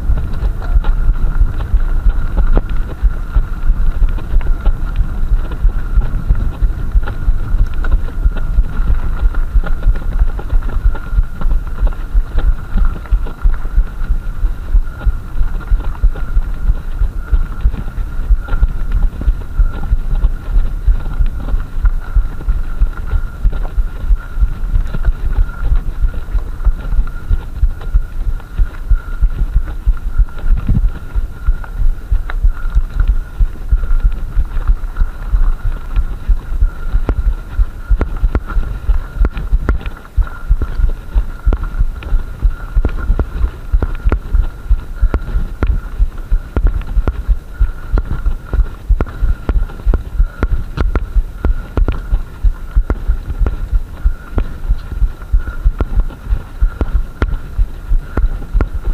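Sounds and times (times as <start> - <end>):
camera thumps from bumps: 0.0 - 58.9
faint high whine: 0.0 - 58.9.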